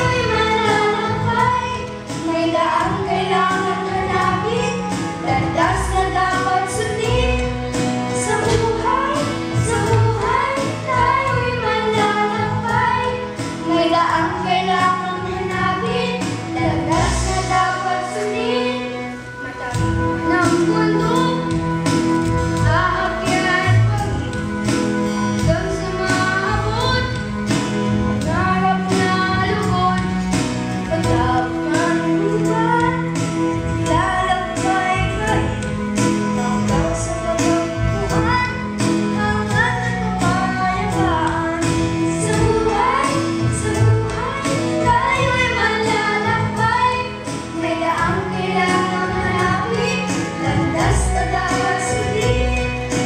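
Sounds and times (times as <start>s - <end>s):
young voices singing: 0.0s - 24.8s, 25.4s - 53.0s
backing music with steady beat: 0.0s - 53.0s.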